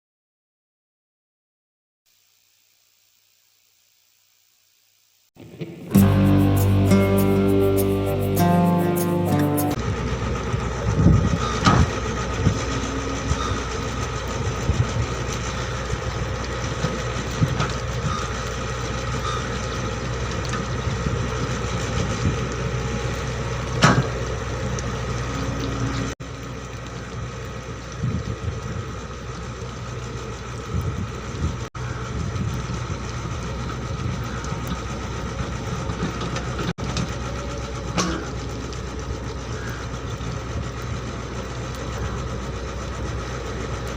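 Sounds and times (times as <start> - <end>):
excavator diesel engine running: 5.9 - 26.1, 27.0 - 43.9.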